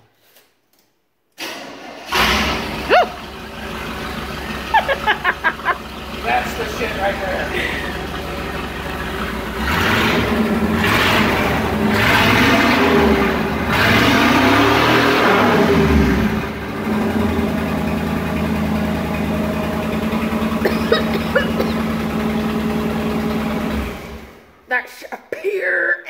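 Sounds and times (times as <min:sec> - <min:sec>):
pickup engine revving and idling: 0:02.1 - 0:24.5.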